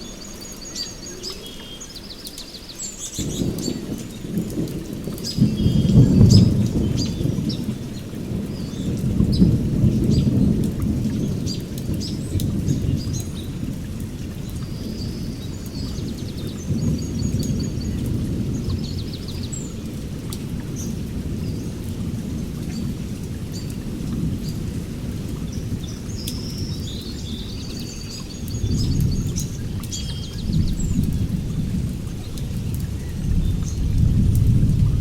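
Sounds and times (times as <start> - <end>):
small birds chirping: 0.0 - 13.7, 14.4 - 21.8, 25.4 - 34.1
rain falling: 0.0 - 35.0
low rolling thunder: 3.1 - 35.0.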